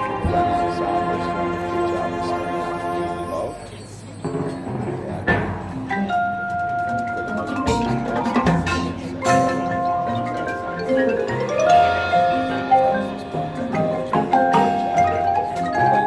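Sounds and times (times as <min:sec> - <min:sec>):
marimbas and vibraphones: 0:00.0 - 0:16.0.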